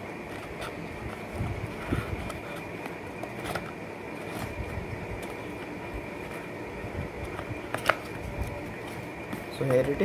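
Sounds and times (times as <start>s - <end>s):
background noise with high whine: 0.0s - 10.0s
card flaps scraping: 0.0s - 10.0s.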